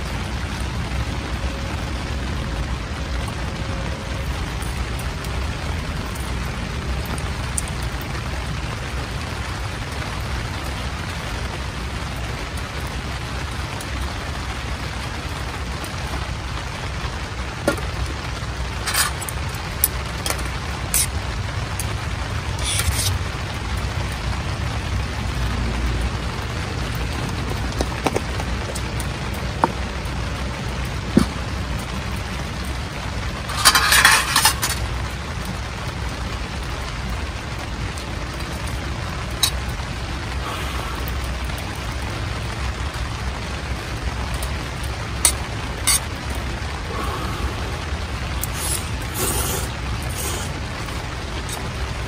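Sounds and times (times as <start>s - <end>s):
steady hiss: 0.0s - 52.0s.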